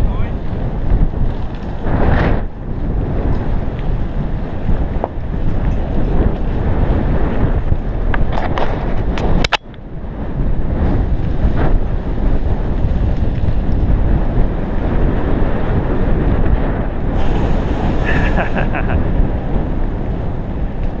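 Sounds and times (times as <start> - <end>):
tyres rumbling on dirt track: 0.0 - 21.0
wind buffeting microphone: 0.0 - 21.0.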